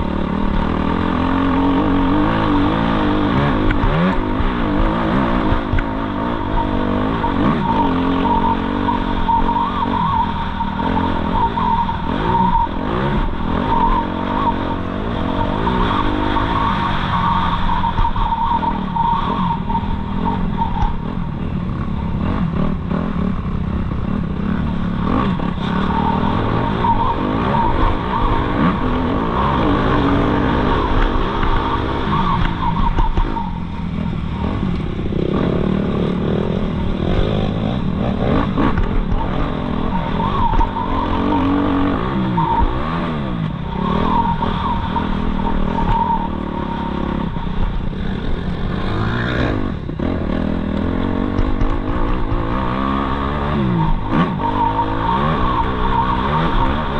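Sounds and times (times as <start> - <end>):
motocross engine revving: 0.0 - 56.9.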